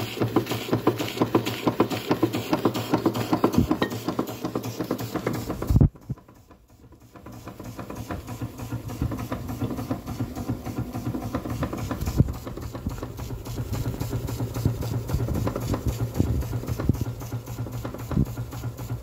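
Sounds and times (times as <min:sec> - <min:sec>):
toy steam engine chuffing: 0:00.0 - 0:19.0.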